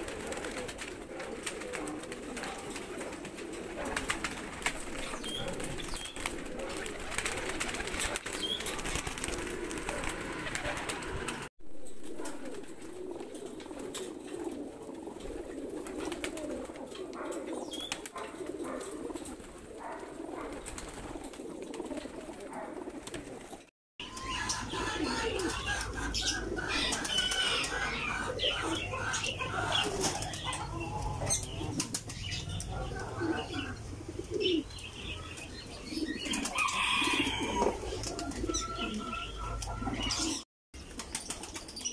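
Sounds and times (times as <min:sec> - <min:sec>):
pigeons cooing: 0:00.0 - 0:41.9.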